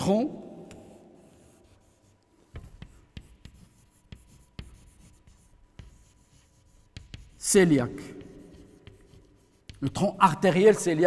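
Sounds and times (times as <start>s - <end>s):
chalk tapping and scratching: 0.7s - 11.0s.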